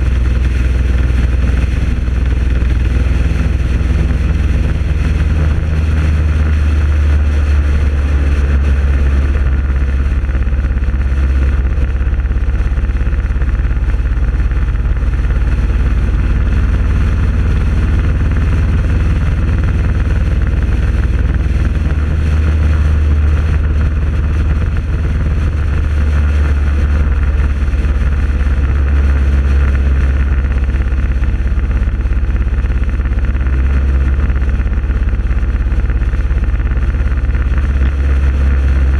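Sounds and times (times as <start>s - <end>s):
motorcycle engines droning: 0.0s - 38.9s
road and wind rush: 0.0s - 38.9s.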